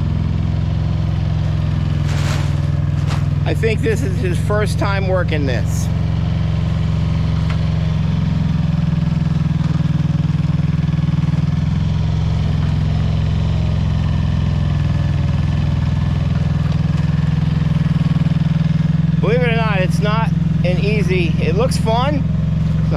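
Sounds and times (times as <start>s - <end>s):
soil-sampling machine engine running: 0.0s - 22.9s.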